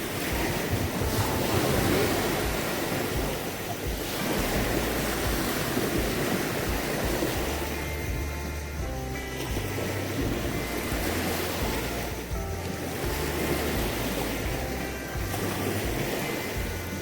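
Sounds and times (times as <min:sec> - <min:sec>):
sea surf washing on shore: 0:00.0 - 0:17.0
wind gusting on microphone: 0:00.0 - 0:17.0.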